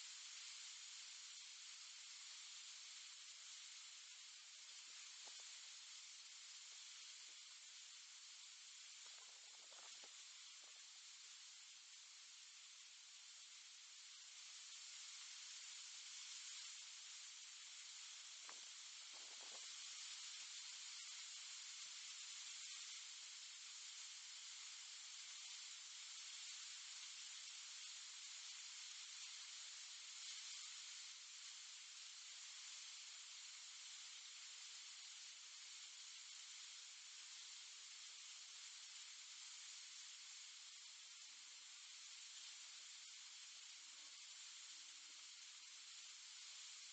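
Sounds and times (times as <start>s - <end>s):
microphone hiss: 0.0s - 46.9s.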